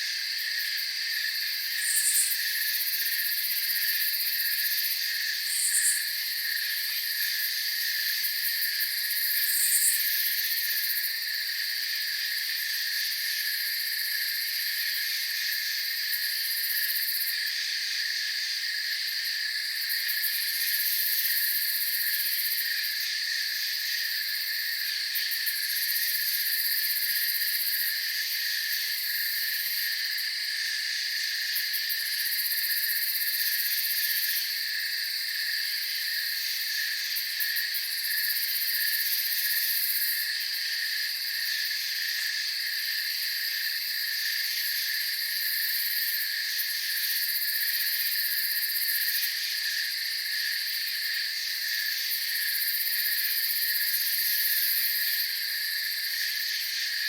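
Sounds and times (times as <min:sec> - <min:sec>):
crickets trilling: 0:00.0 - 0:57.0
high-pitched insect call: 0:00.0 - 0:57.0.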